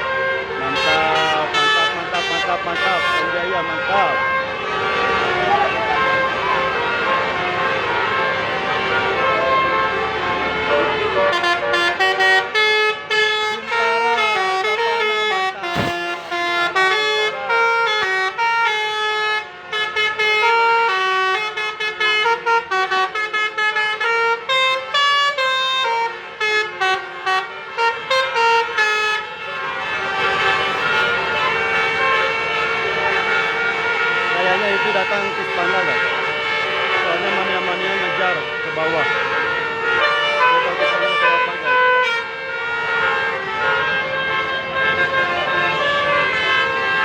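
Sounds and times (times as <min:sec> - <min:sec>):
bus melody horn: 0:00.0 - 0:47.0.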